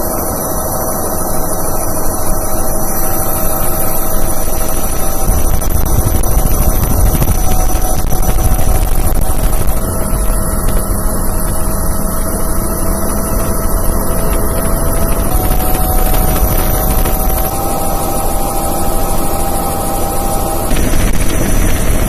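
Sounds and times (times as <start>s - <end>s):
helicopter rotor and turbine: 0.0s - 22.0s
helicopter whine: 0.0s - 22.0s.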